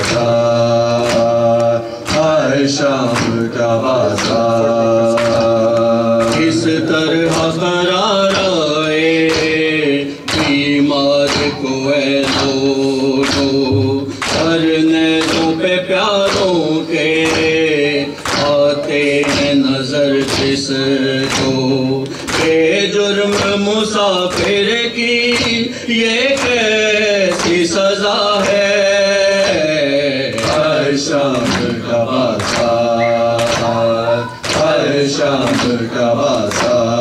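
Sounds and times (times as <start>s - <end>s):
men singing in chorus: 0.0s - 37.0s
rhythmic chest slapping: 0.0s - 37.0s.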